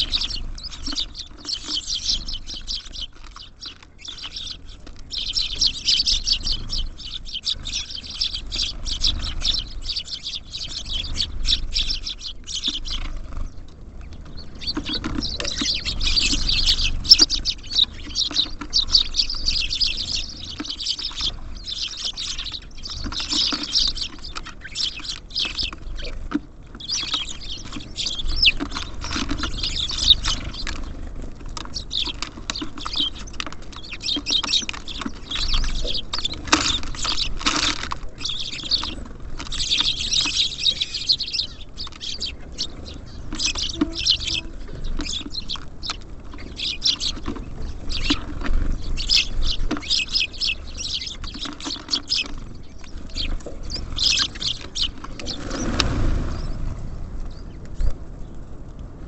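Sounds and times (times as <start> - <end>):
birds pecking on a feeder: 0.0 - 59.0
small songbirds chirping: 0.0 - 59.0.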